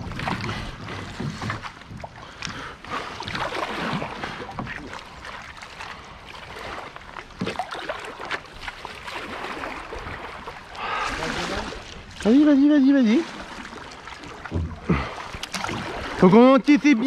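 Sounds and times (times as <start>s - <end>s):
paddles pulling through water: 0.0s - 17.0s.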